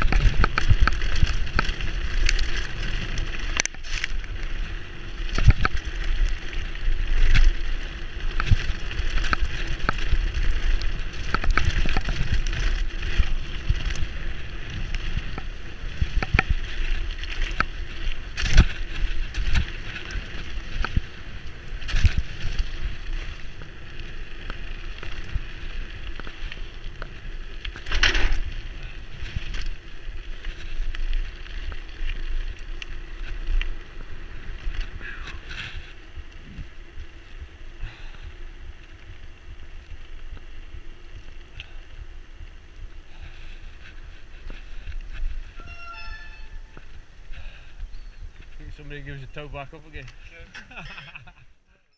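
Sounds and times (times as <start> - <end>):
tyres crunching over gravel: 0.0 - 51.3
bike rattling and clicking: 0.0 - 51.4
wind rumbling on microphone: 0.0 - 51.4.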